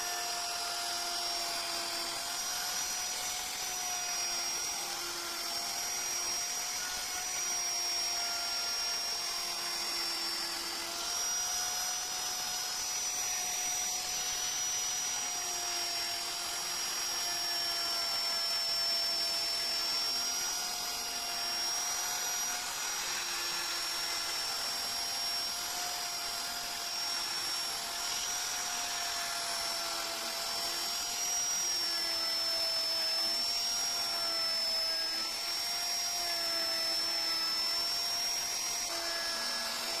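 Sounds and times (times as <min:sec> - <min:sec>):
rotary carving tool whining: 0:00.0 - 0:40.0.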